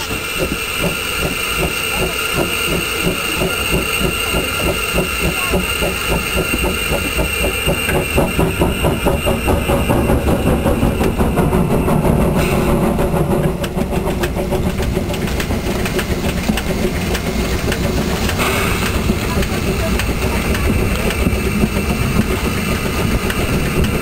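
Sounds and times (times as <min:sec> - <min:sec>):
steam locomotive exhaust beats: 0:00.0 - 0:24.0.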